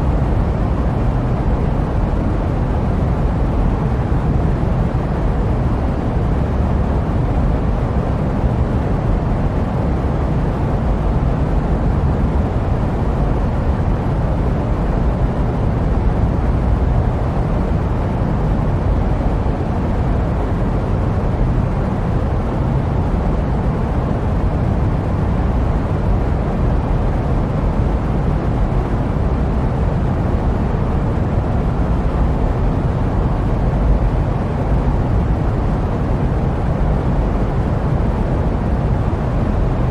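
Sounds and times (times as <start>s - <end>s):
jet aircraft low rumble: 0.0s - 39.9s.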